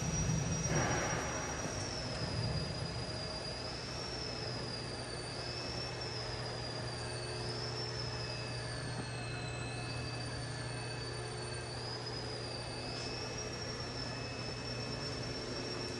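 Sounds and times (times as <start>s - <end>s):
bandsaw motor humming with whine: 0.0s - 15.9s.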